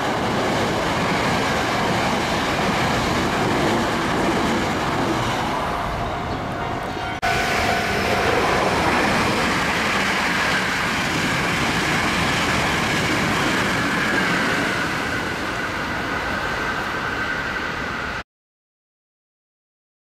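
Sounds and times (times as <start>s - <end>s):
train wheels rushing on rail: 0.0s - 18.2s.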